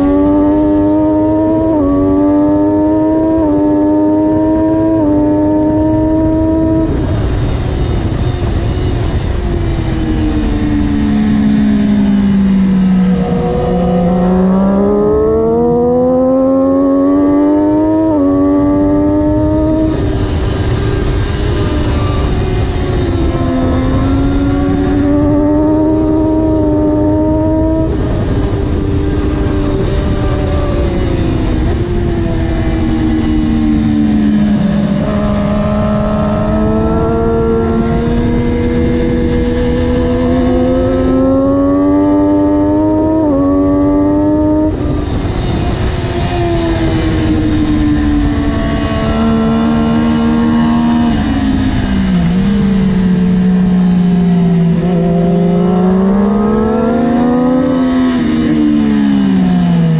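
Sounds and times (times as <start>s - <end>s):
heavy wind rush: 0.0s - 59.9s
motorcycle engine running hard: 0.0s - 59.9s.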